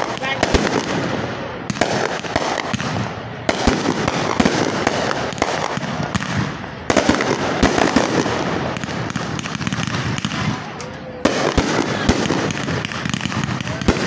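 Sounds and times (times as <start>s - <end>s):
firework crackling: 0.0s - 14.0s.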